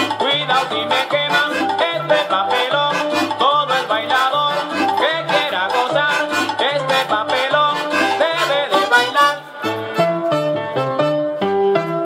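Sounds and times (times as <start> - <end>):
accordion dance tune: 0.0 - 12.0
steady bass line: 0.0 - 12.0.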